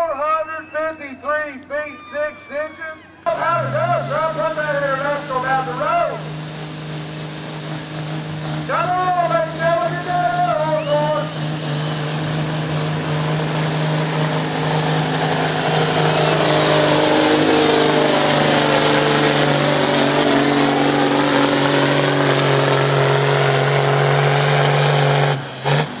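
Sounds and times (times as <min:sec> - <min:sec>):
diesel truck engine under heavy load: 0:00.0 - 0:26.0.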